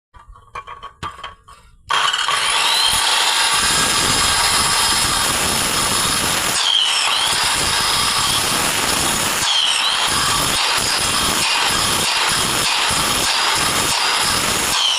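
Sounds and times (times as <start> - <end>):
power tool whining: 1.9 - 14.9.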